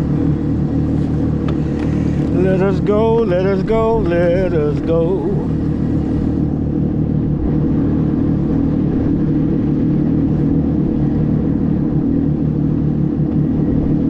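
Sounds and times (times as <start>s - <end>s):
boat motor drone: 0.0s - 14.0s.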